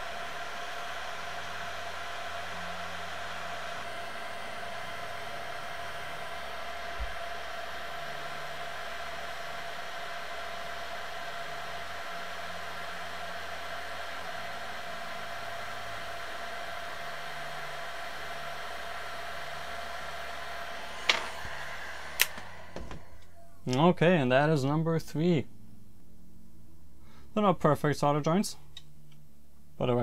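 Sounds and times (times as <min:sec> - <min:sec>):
blower fan hissing: 0:00.0 - 0:30.0.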